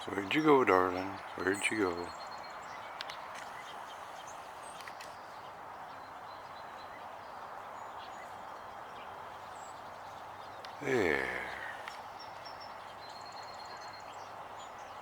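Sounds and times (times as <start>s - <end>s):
faint bird chirps: 0.0s - 15.0s
outdoor background hiss: 0.0s - 15.0s.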